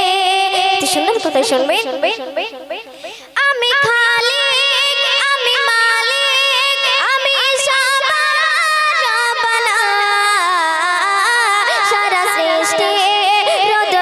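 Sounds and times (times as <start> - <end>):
girl singing into a microphone: 0.0 - 14.0.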